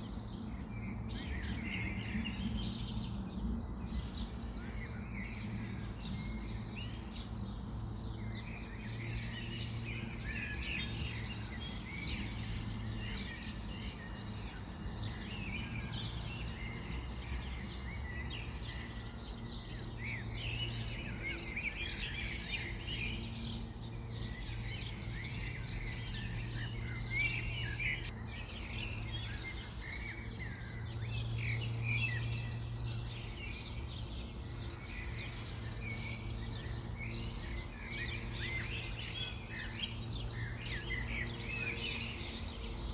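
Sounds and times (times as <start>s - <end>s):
songbirds chirping and singing: 0.0s - 42.9s.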